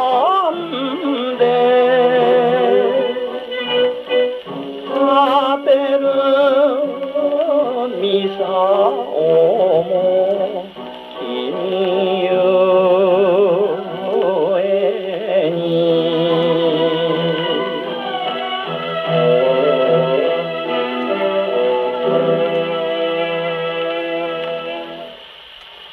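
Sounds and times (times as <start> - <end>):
old gramophone record of popular song: 0.0 - 25.9.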